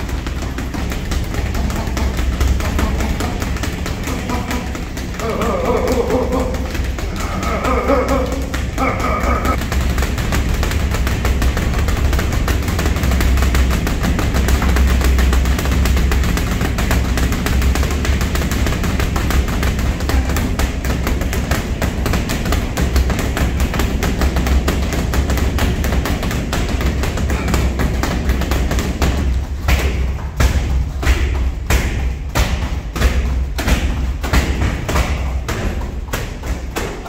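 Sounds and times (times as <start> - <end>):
punches thudding on heavy bags: 0.0 - 37.0.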